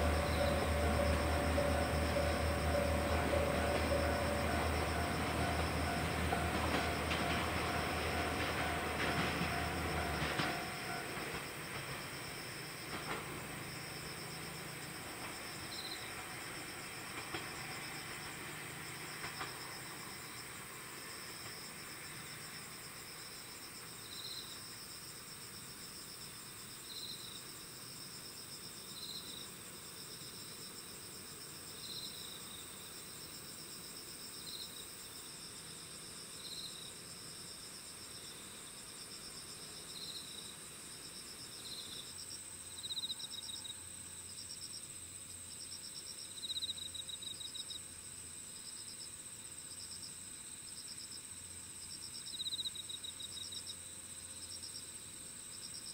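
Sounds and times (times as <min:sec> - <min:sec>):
insect chirp: 0:00.0 - 0:55.9
insects buzzing trills: 0:00.0 - 0:55.9
loud pulsed insect trill: 0:00.0 - 0:55.9.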